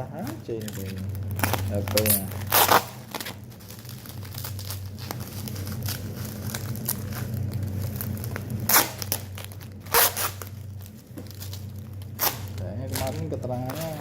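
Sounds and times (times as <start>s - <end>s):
packaging crinkling: 0.0s - 14.0s
packaging ripping: 0.0s - 14.0s
steady low hum: 0.0s - 14.0s.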